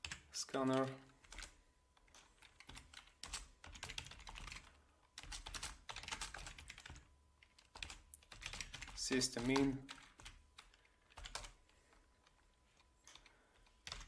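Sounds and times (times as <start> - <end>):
faint keyboard typing: 0.0 - 14.0.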